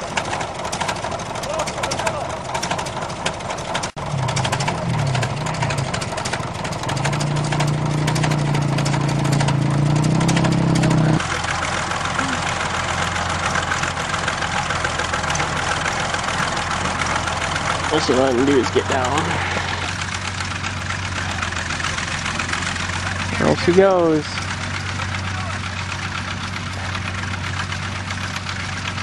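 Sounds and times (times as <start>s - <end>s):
bulldozer engine clattering: 0.0s - 29.0s.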